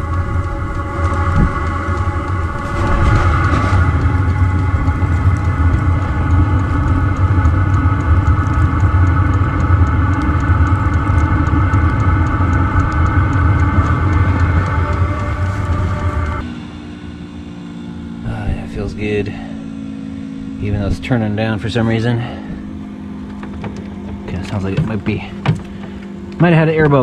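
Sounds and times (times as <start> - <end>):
diesel air heater humming: 0.0 - 27.0.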